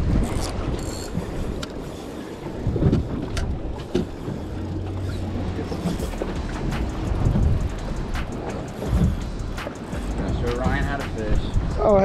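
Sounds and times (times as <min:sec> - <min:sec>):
water noise: 0:00.0 - 0:12.0
wind buffeting microphone: 0:00.0 - 0:12.0.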